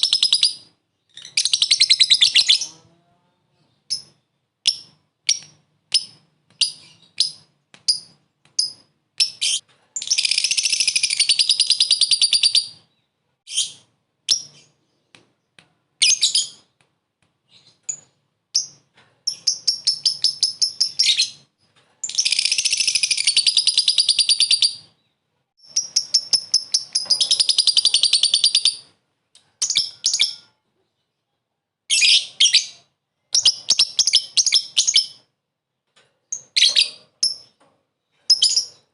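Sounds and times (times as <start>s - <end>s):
lovebird chirping: 0.0s - 15.1s, 16.0s - 16.7s, 17.5s - 31.3s, 31.9s - 35.3s, 38.3s - 38.9s.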